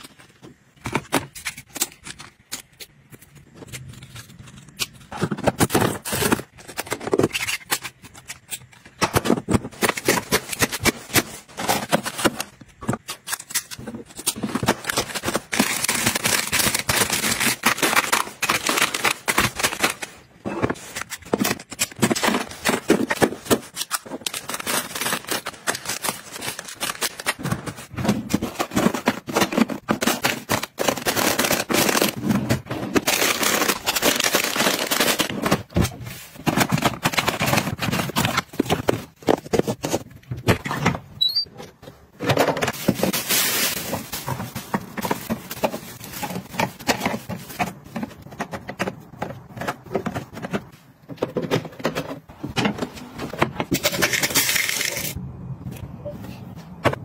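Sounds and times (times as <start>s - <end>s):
plastic packets crinkling: 1.5s - 40.1s, 42.4s - 50.7s.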